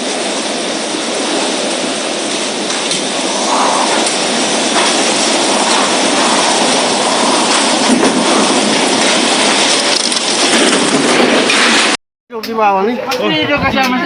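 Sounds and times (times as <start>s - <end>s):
heavy rain: 0.0s - 12.0s
storm wind blowing: 0.0s - 12.0s, 12.7s - 14.0s.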